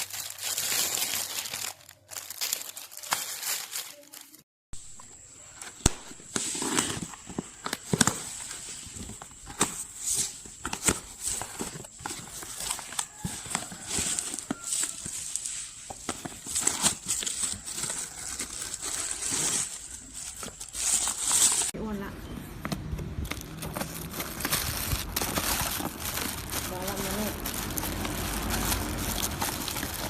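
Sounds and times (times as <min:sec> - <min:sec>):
crinkling: 0:00.0 - 0:04.4, 0:05.0 - 0:21.8, 0:22.7 - 0:30.0.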